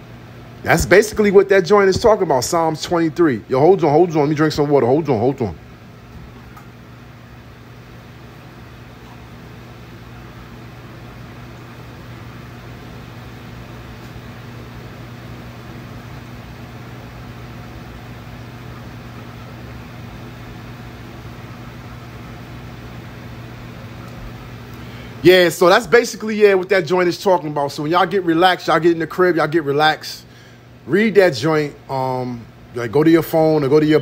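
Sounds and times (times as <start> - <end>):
air conditioner running: 0.0 - 34.0.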